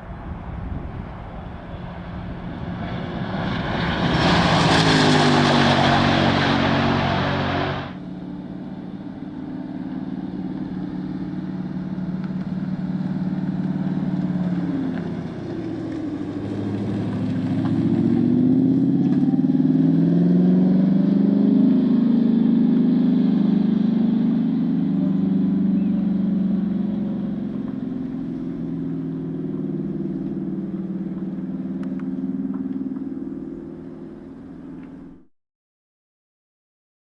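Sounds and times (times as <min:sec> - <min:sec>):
race car engine accelerating: 0:00.2 - 0:35.2.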